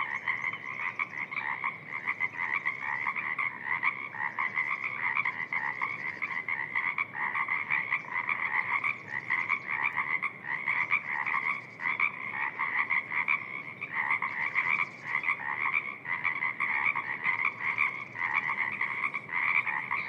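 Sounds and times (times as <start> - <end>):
frogs chorus: 0.0 - 20.0.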